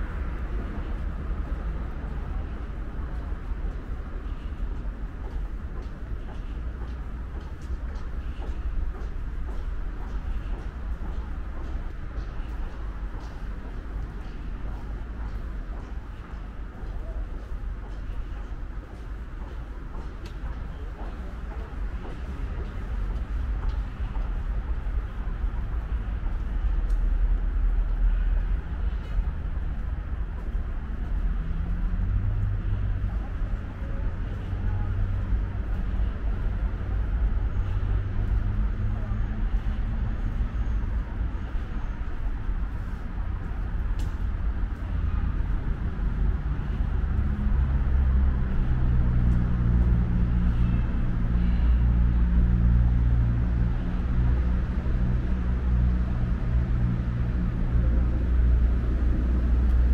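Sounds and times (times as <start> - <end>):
low rumble of traffic: 0.0 - 59.9
street noise: 0.0 - 59.9
vehicle engine humming: 0.0 - 59.9.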